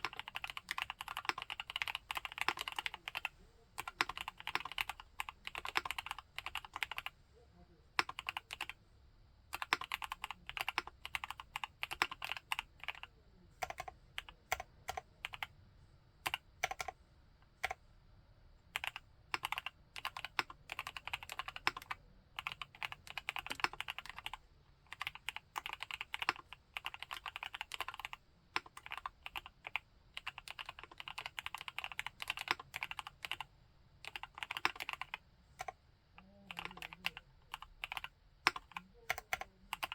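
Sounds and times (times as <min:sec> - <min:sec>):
typing on mechanical keyboard: 0:00.0 - 0:07.1, 0:08.0 - 0:08.8, 0:09.5 - 0:15.5, 0:16.3 - 0:17.0, 0:18.8 - 0:35.8, 0:36.4 - 0:39.9.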